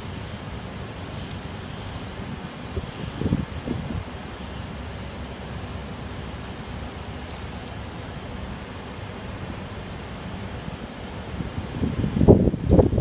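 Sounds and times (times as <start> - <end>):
rain on a concrete roof: 0.0 - 13.0.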